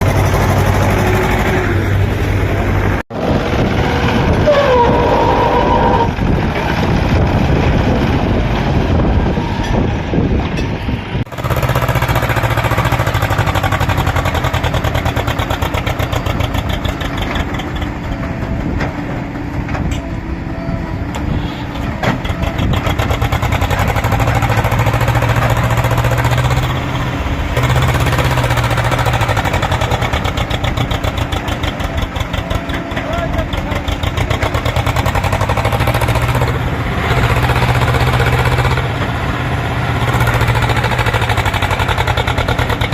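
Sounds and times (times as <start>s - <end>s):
diesel tractor engines running: 0.0s - 42.9s.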